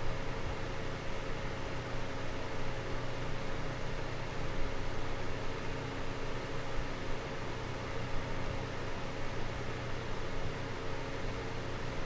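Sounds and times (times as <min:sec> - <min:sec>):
faint motor hum: 0:00.0 - 0:12.0.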